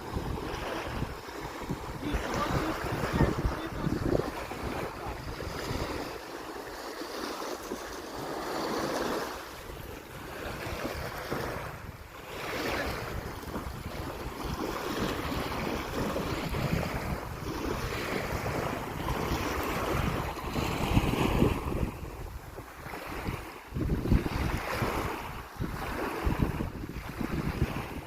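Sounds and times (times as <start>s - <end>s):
sea waves washing onto shore: 0.0s - 28.0s
wind rumbling on microphone: 0.0s - 28.0s.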